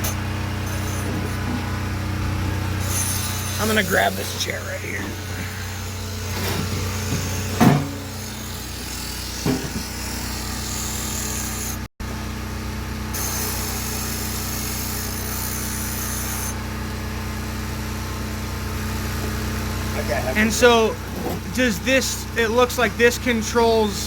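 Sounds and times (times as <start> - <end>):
steady motor hum: 0.0 - 24.0.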